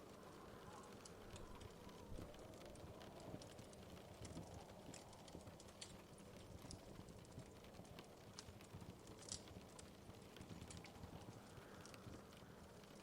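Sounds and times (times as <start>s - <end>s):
soft low fire rumble: 0.0s - 13.0s
wood fire crackling faintly: 0.0s - 13.0s.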